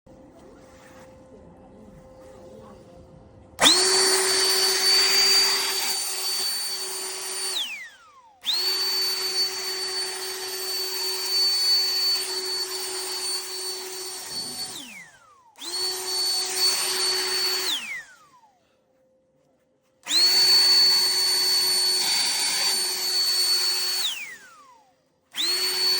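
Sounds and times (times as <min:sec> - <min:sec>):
leaf blower motor whining: 0:03.6 - 0:18.7, 0:20.0 - 0:25.9.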